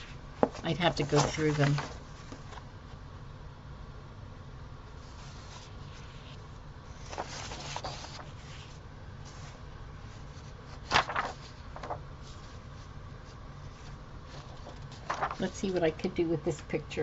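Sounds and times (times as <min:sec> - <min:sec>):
paper rustling: 0:00.0 - 0:02.7, 0:05.0 - 0:16.1
low steady hum: 0:00.0 - 0:17.0.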